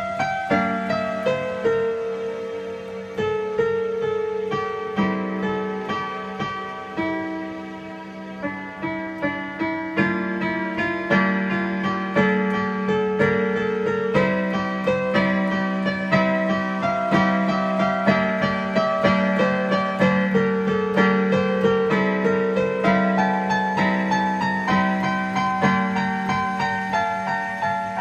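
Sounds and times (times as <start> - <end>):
piano melody over held note: 0.0 - 28.0.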